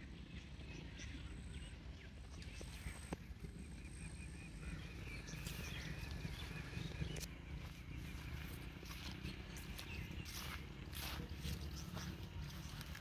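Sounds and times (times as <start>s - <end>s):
bird chirps: 0.0s - 13.0s
low rumble: 0.0s - 13.0s.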